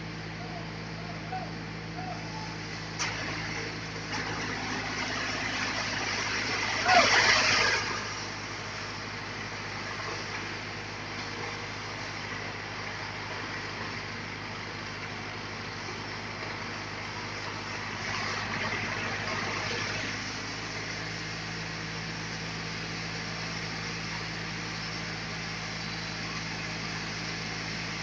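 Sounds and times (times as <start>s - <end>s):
low hum: 0.0s - 27.4s
sawmill machinery humming: 0.0s - 28.0s.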